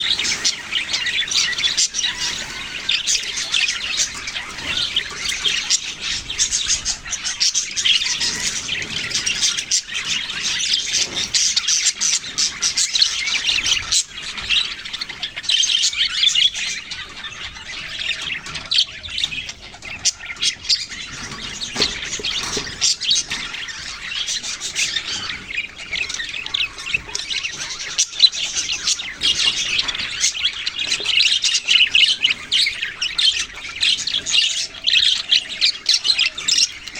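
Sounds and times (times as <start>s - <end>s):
budgies chirping and squawking: 0.0s - 36.9s.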